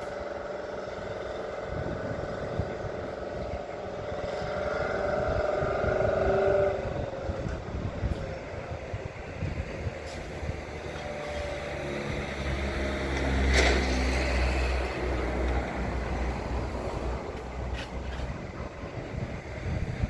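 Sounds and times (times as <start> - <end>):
truck engine revving under load: 0.0 - 20.0.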